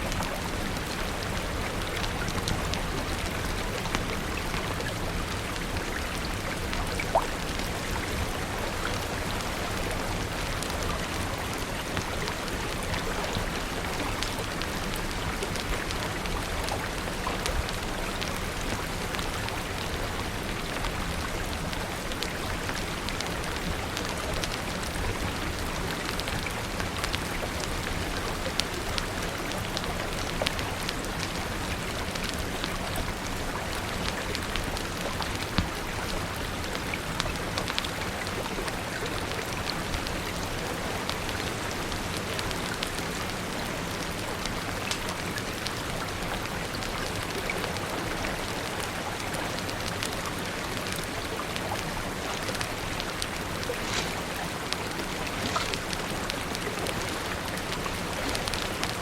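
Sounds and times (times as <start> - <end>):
rain falling: 0.0 - 59.0
raindrops ticking: 0.0 - 59.0.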